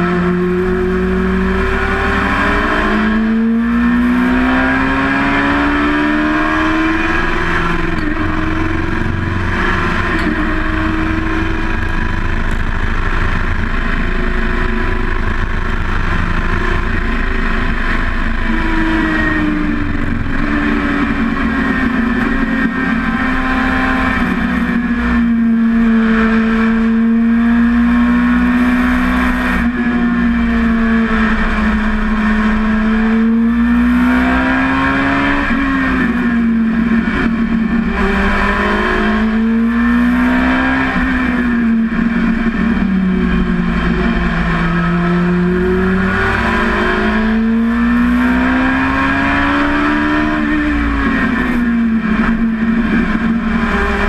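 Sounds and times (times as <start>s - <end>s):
race car engine running hard: 0.0s - 54.0s
wind and road noise: 0.0s - 54.0s.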